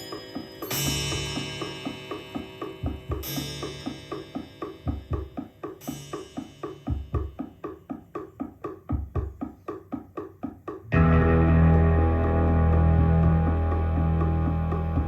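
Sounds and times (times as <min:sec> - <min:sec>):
drum kit: 0:00.0 - 0:15.0
repeated percussive notes: 0:00.0 - 0:15.0.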